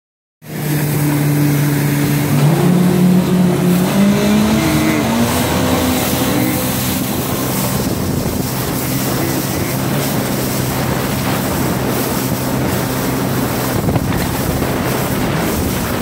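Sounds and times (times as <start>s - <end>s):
watercraft engine revving: 0.4s - 16.0s
wind and water spray rushing: 0.5s - 16.0s.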